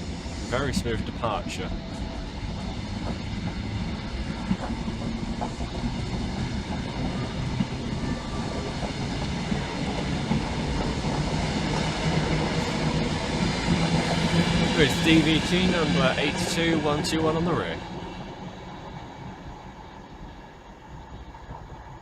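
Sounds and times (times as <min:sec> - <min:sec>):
low train hum: 0:00.0 - 0:22.0
train coaches rumbling past: 0:00.0 - 0:22.0.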